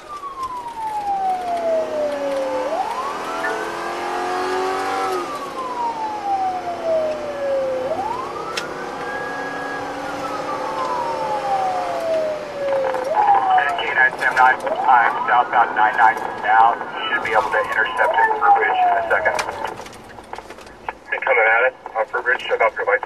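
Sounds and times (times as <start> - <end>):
car engine running: 0.0 - 22.9
police siren wailing: 0.0 - 23.0.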